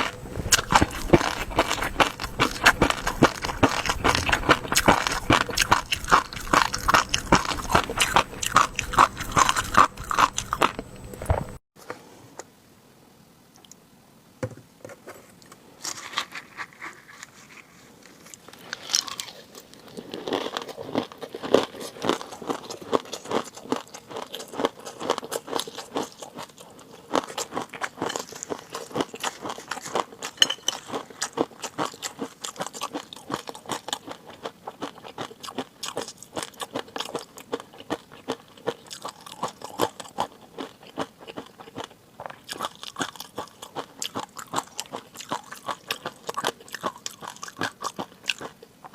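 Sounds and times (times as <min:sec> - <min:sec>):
person chewing and crunching food: 0:00.0 - 0:11.6, 0:15.9 - 0:48.9.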